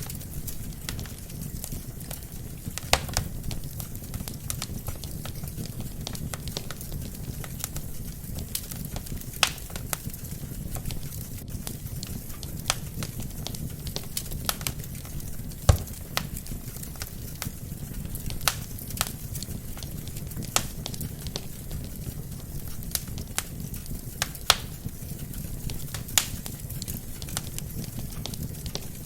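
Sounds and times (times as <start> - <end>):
burning logs crackling and popping: 0.0 - 29.0
flame rumbling: 0.0 - 29.0.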